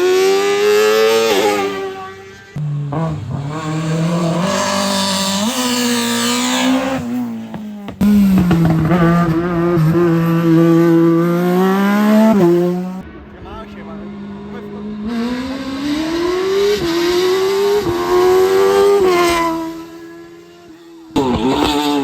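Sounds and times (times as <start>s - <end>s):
car engine revving high: 0.0s - 22.0s.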